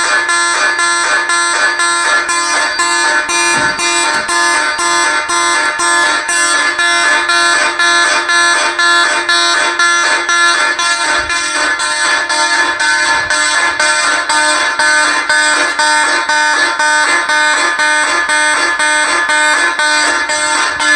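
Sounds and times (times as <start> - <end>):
buzzy fire alarm horn pulsing: 0.0 - 20.9.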